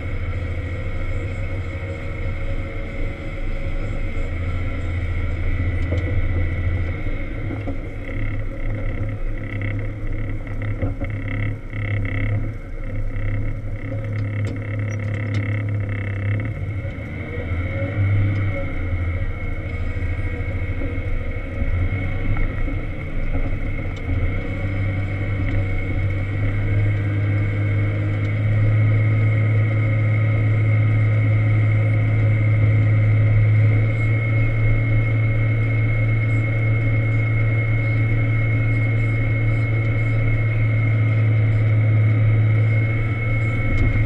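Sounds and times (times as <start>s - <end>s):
diesel engine running: 0.0s - 44.0s
thin high whine: 0.0s - 44.0s.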